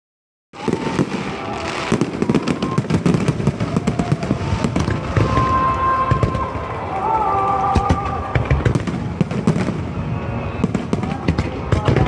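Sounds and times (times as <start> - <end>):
fireworks bangs and crackles: 0.6 - 12.0.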